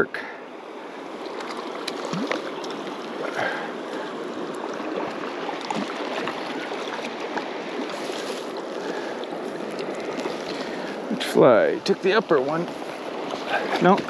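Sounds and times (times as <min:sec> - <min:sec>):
stream water over rocks: 0:00.0 - 0:14.0.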